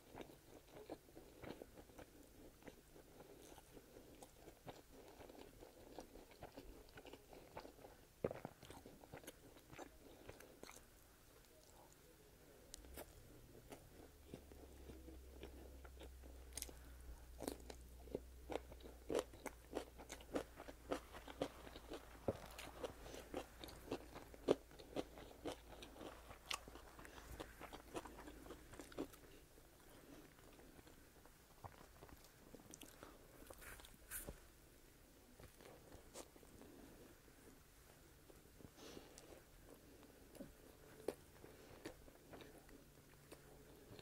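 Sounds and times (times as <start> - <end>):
chewing food: 0.0 - 12.1, 12.7 - 34.4, 37.9 - 44.0.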